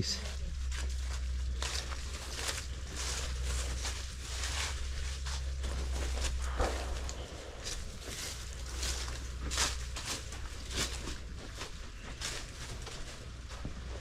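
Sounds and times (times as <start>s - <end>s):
low rumble: 0.0s - 14.0s
soft footsteps outdoors: 0.0s - 14.0s.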